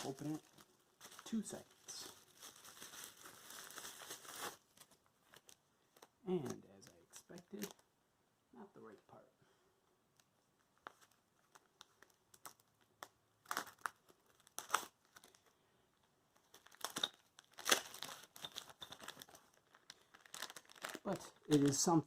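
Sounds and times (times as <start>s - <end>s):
packaging crinkling: 0.0s - 7.9s, 10.6s - 15.6s, 16.3s - 22.0s.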